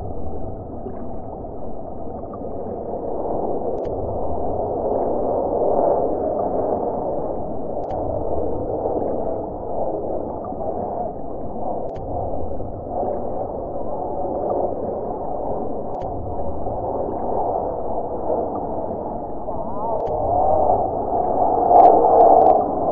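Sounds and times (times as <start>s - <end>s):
jet engine rumble: 0.0s - 22.9s.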